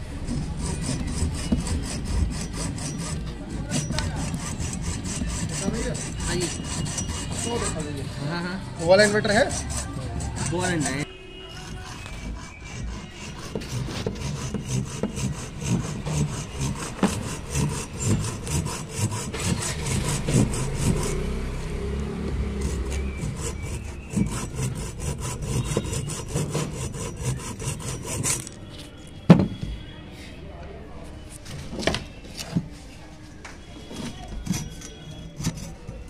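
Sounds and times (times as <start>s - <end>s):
hacksaw sawing metal: 0.0s - 21.7s, 22.4s - 28.6s, 34.0s - 36.0s.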